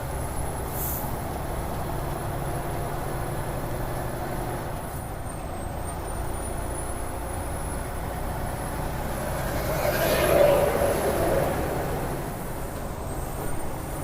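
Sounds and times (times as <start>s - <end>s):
road noise: 0.0s - 14.0s
truck engine drone: 0.0s - 14.0s.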